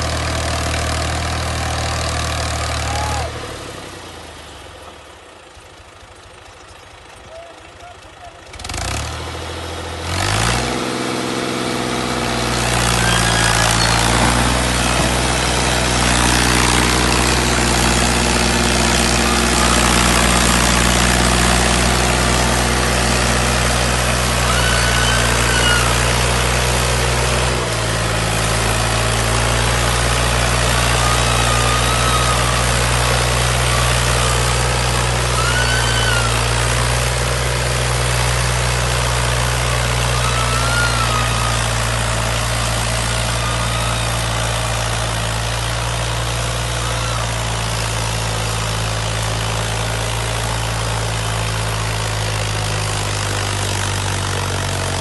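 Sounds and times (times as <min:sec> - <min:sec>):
combine harvester engine: 0:00.0 - 0:55.0.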